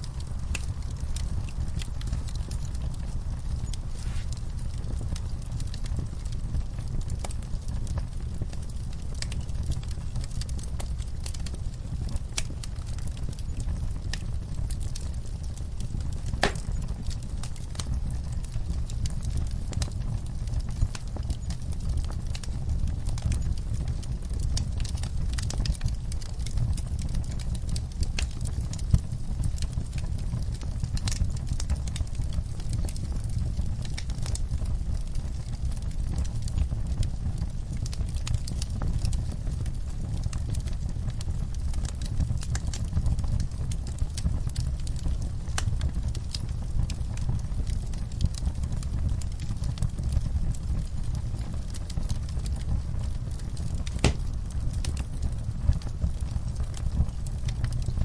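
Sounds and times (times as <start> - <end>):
fire crackles and pops: 0.0 - 58.0
fire flame rumble: 0.0 - 58.0.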